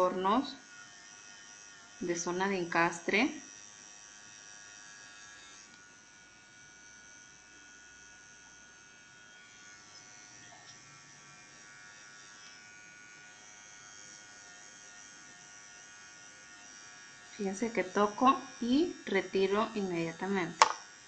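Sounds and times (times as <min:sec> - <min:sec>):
electric nail drill whine: 0:00.0 - 0:21.0.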